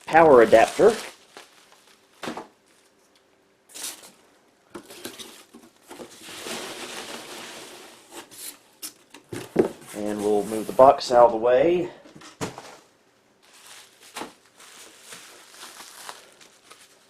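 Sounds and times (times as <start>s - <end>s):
packing material rustling: 0.0s - 4.2s, 4.8s - 11.0s, 13.4s - 17.0s.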